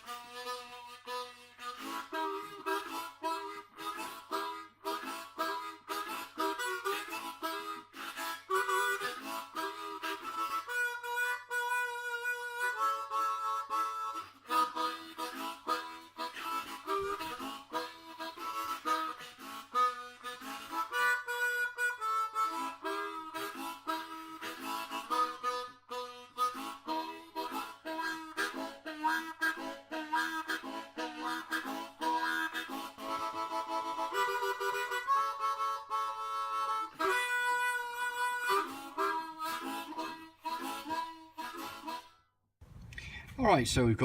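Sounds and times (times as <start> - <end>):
harmonica tune: 0.0 - 42.4.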